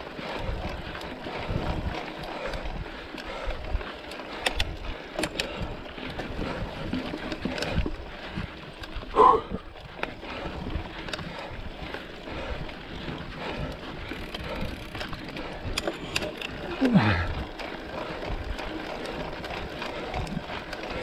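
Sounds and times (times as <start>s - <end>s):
bike knocking and rattling: 0.0s - 21.0s
tyre and wind noise: 0.0s - 21.0s.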